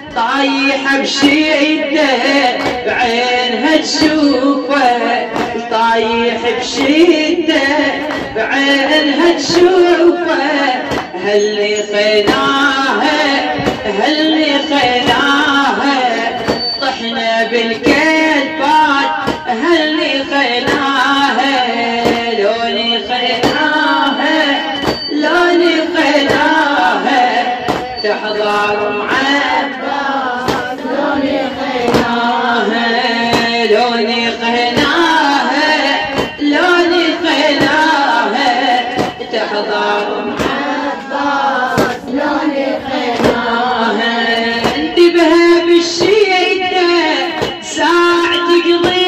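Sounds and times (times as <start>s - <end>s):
group singing along: 0.0s - 49.0s
woman chanting a lament: 0.0s - 49.0s
sharp rhythmic beat: 0.1s - 49.0s.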